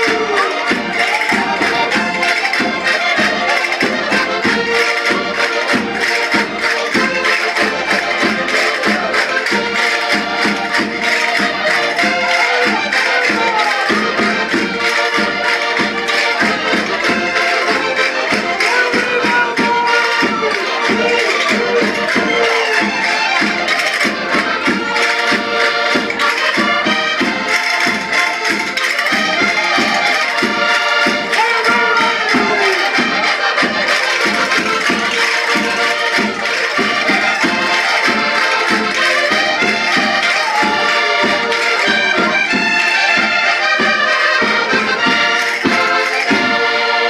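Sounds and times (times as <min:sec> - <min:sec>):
button accordions playing folk dance: 0:00.0 - 0:47.0.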